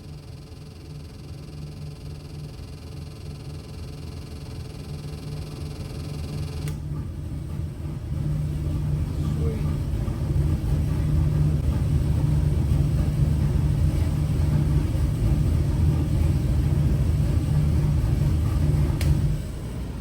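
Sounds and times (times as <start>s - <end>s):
car engine running on dyno: 0.0s - 20.0s.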